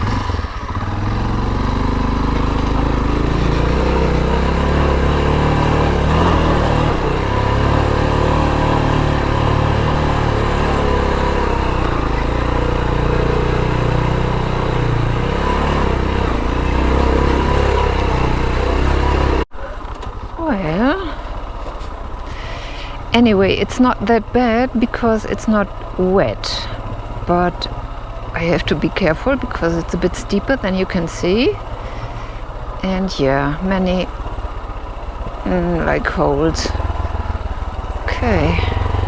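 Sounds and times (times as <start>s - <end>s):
motorcycle engine running: 0.0s - 39.0s
wind and ride noise: 0.0s - 39.0s.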